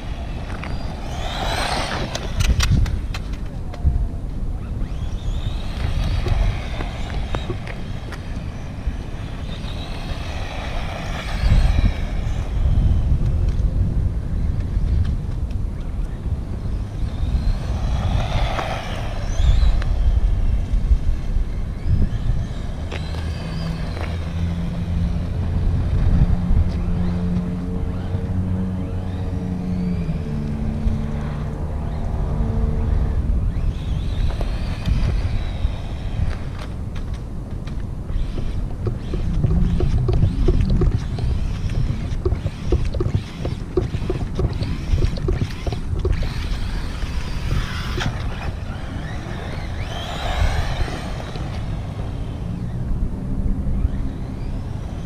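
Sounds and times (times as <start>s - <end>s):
rc car motor whining: 0.0s - 3.4s, 4.6s - 13.7s, 16.1s - 37.2s, 38.1s - 53.0s, 53.6s - 55.0s
constant low rumble: 0.0s - 55.0s.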